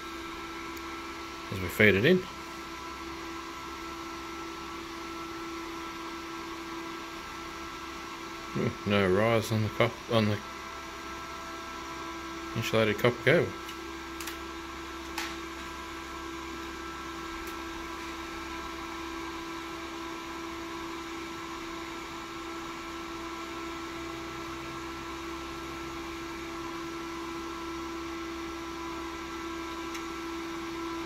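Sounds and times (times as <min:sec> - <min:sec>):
cooling fan running: 0:00.0 - 0:31.0.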